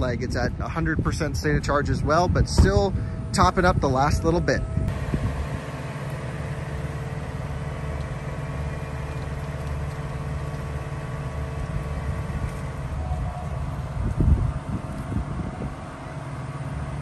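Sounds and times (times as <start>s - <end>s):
charging station low hum: 0.0s - 17.0s.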